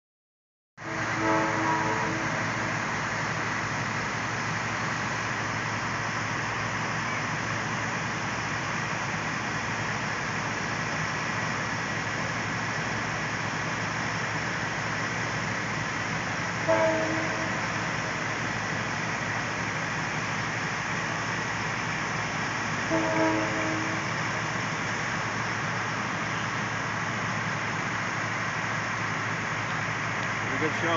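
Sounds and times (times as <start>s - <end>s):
fire engine engines droning: 0.8s - 30.9s.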